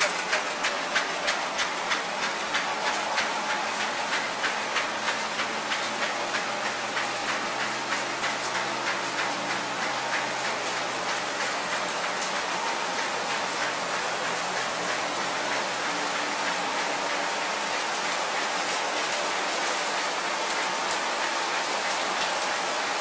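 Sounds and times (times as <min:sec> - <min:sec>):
regular mechanical clatter: 0:00.0 - 0:23.0
rotary drum dryer running: 0:00.0 - 0:23.0.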